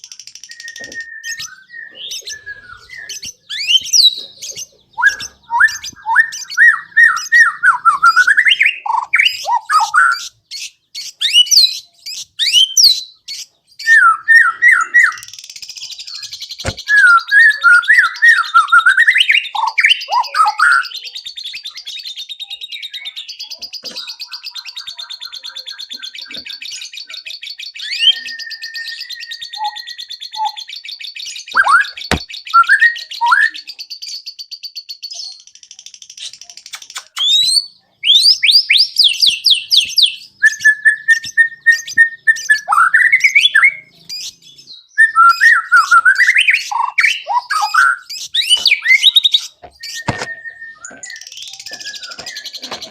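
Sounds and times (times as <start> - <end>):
bird singing whistled phrases: 0.0 - 35.6, 36.2 - 52.9.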